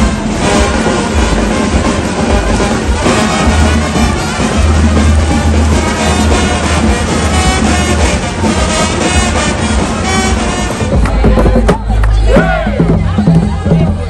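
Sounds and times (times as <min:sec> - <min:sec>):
loud music with heavy bass: 0:00.0 - 0:14.0.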